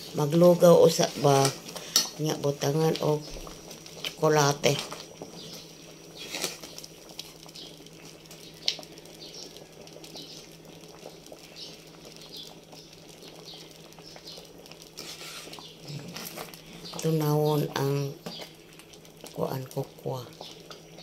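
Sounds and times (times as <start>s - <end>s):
porridge bubbling and plopping: 0.0s - 21.0s.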